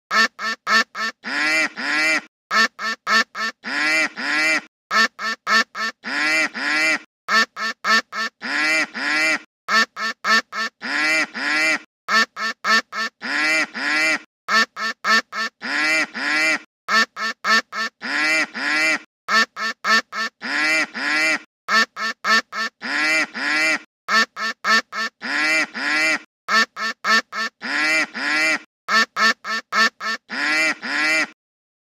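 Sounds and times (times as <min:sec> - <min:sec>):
duck quack ringtone: 0:00.1 - 0:31.4.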